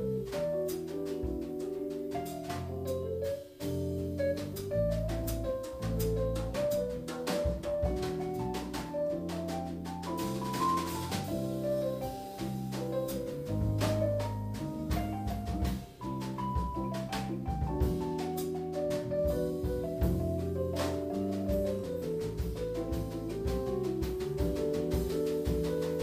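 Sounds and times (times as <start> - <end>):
drum kit with cymbals: 0.0 - 26.0.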